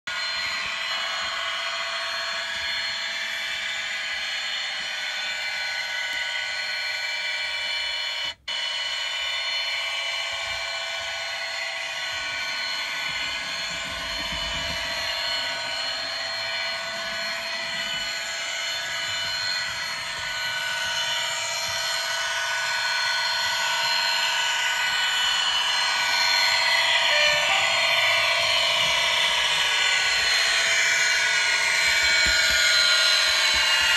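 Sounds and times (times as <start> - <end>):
diesel engine sound from small speaker: 0.1 - 33.9.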